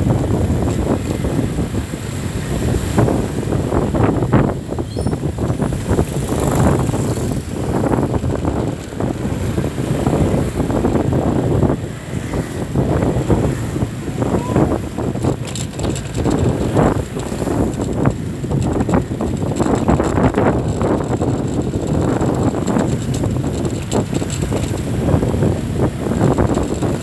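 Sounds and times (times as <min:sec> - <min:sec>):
road traffic rumble: 0:00.0 - 0:27.0
wind buffeting microphone: 0:00.0 - 0:27.0.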